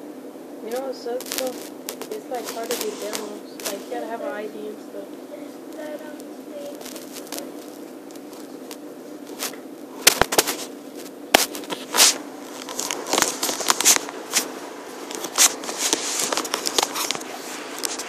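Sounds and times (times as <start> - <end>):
steady hiss: 0.0 - 18.0
sharp clicks and crackles: 0.7 - 4.0, 5.7 - 18.0.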